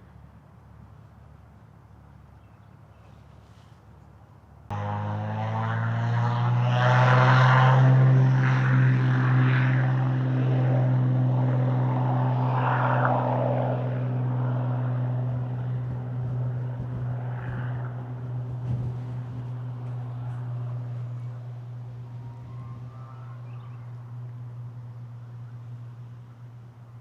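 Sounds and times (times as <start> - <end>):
propeller aircraft droning overhead: 0.0 - 27.0.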